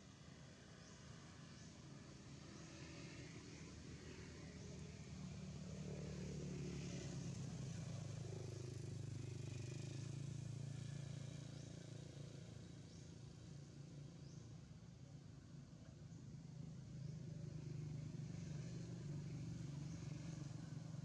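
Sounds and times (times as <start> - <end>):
faint low engine hum: 0.0 - 21.0.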